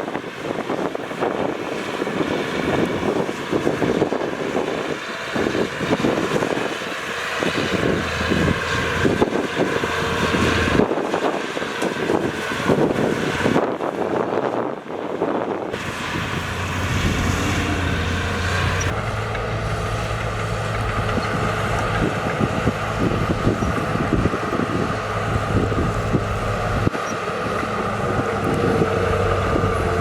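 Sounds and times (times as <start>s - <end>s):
diesel machinery engines: 0.0s - 30.0s
wind noise on microphone: 0.0s - 30.0s.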